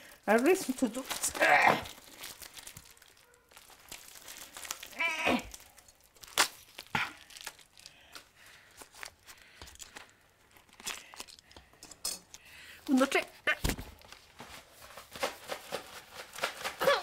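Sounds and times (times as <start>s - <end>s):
plastic wrapping crinkling and tearing: 0.0s - 11.6s, 12.8s - 17.0s.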